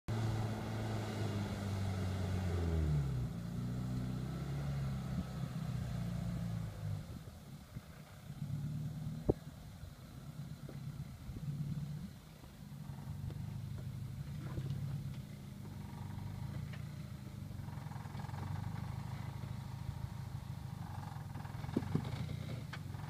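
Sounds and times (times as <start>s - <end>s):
off-road vehicle engine revving: 0.1s - 23.0s.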